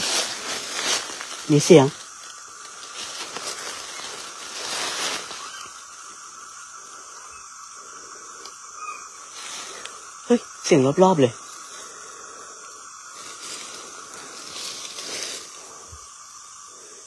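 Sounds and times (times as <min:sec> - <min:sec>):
rustling foliage: 0:00.0 - 0:17.0
steady hiss: 0:00.0 - 0:17.0.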